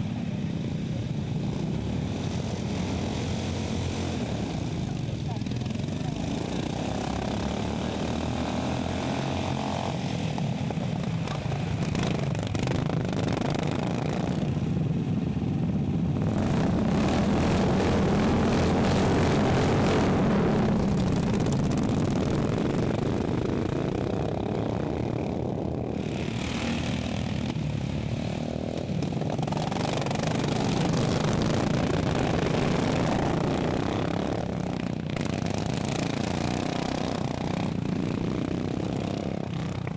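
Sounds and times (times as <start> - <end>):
lawn mower engines racing past: 0.0 - 39.9.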